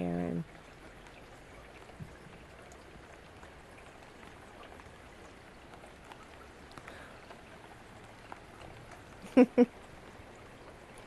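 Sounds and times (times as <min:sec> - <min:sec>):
rain hiss with small ticks: 0:00.0 - 0:11.0.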